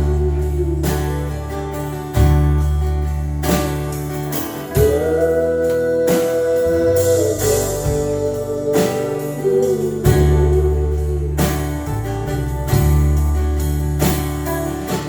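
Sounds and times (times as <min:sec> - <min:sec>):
steady bass: 0:00.0 - 0:15.0
strummed guitar: 0:00.0 - 0:15.0.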